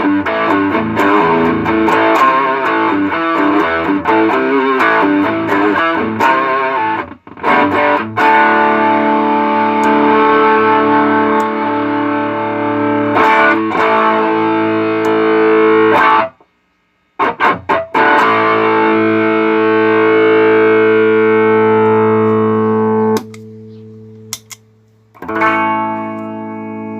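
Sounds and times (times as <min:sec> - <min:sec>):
distorted electric guitar chords: 0:00.0 - 0:16.5, 0:17.1 - 0:26.9.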